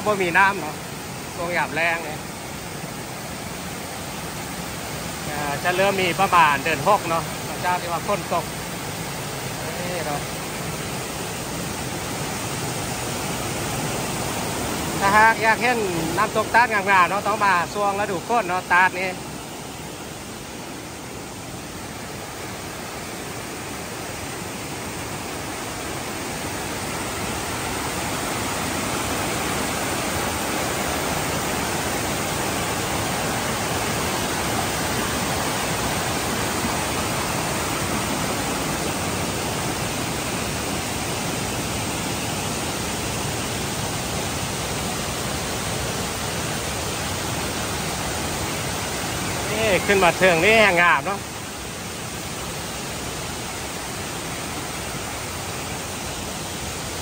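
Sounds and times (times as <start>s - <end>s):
water rushing over cascades: 0.0s - 57.0s.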